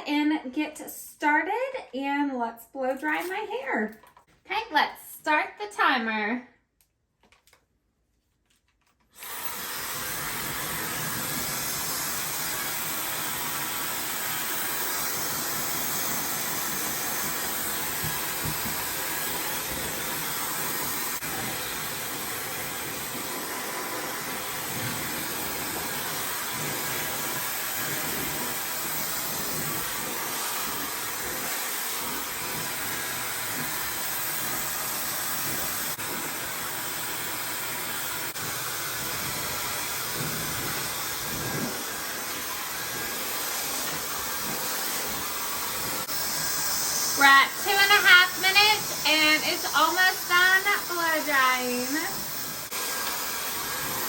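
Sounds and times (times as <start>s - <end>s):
hair dryer blowing air: 9.1s - 54.0s.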